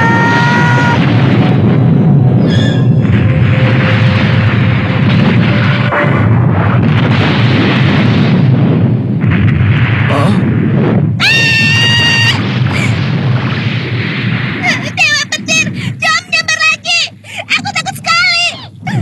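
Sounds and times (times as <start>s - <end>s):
cartoon rumbling blast: 0.0s - 17.3s.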